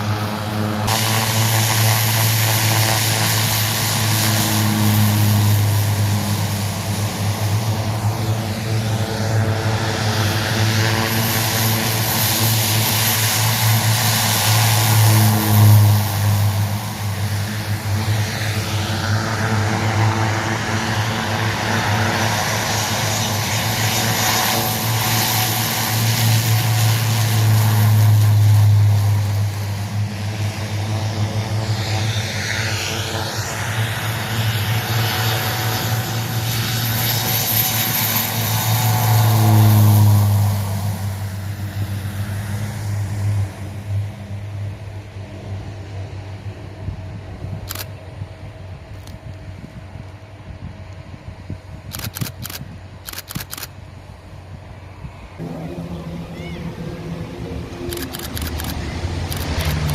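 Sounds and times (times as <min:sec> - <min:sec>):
propeller aircraft engines droning: 0:00.0 - 0:59.9.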